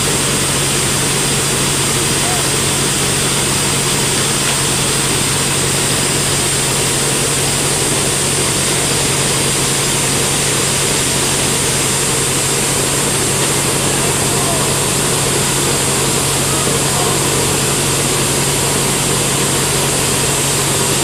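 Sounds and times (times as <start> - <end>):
band saw running: 0.0 - 21.0.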